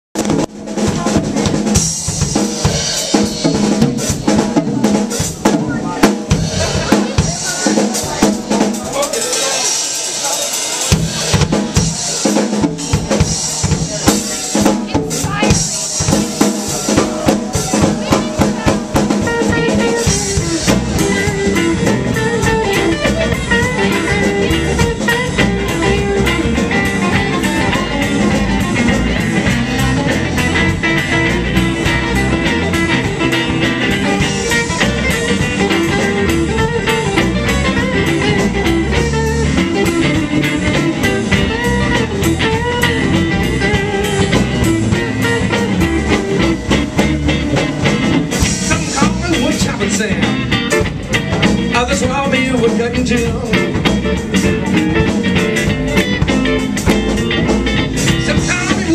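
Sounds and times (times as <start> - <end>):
bass guitar: 0.1 - 58.9
drum kit steady beat: 0.1 - 58.9
electric guitar: 0.2 - 58.9.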